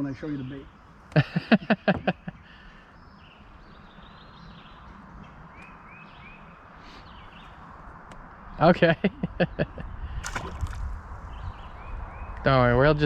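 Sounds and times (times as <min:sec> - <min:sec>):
birds chirping faintly: 0:00.0 - 0:13.0
steady outdoor hiss: 0:00.0 - 0:13.0.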